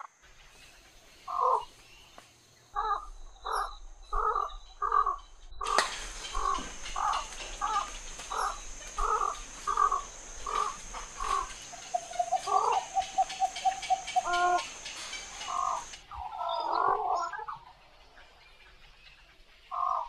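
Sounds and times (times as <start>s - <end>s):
herons calling: 0.0s - 20.0s.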